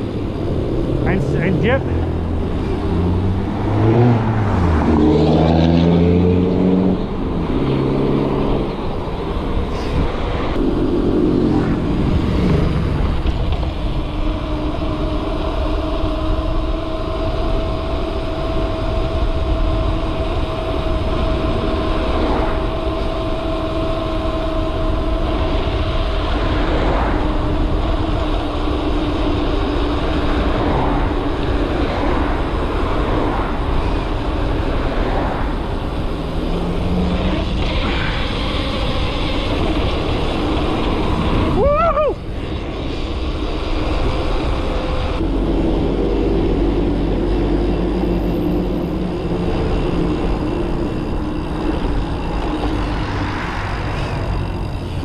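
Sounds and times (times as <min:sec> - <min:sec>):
constant low rumble: 0:00.0 - 0:05.0, 0:08.4 - 0:55.0
steady engine hum: 0:00.0 - 0:55.0
vehicle engine revving: 0:00.0 - 0:55.0.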